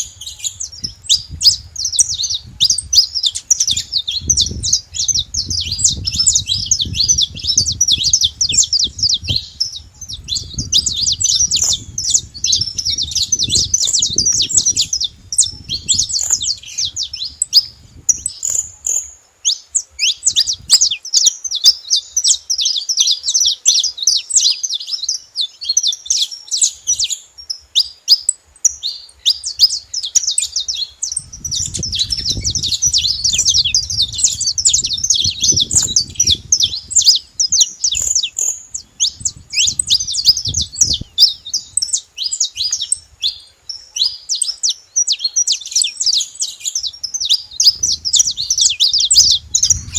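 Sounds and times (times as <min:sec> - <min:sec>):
finch singing: 0:00.0 - 0:49.9.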